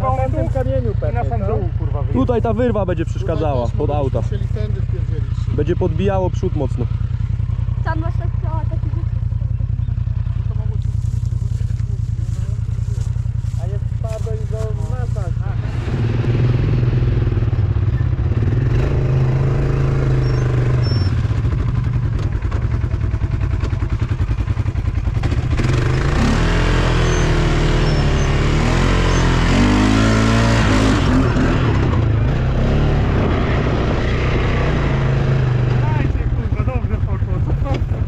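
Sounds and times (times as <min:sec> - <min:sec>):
off-road vehicle engine revving: 0:00.0 - 0:38.0.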